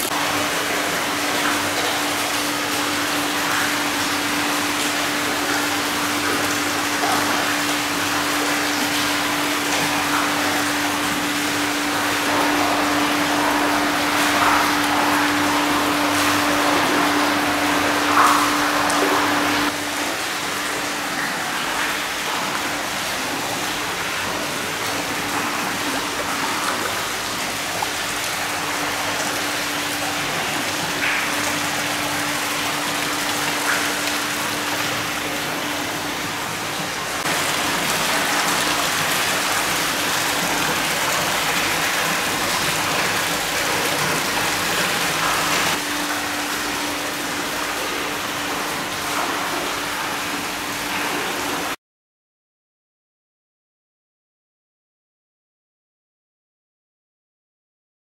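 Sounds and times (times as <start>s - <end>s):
water pouring from a spout: 0.0s - 51.6s.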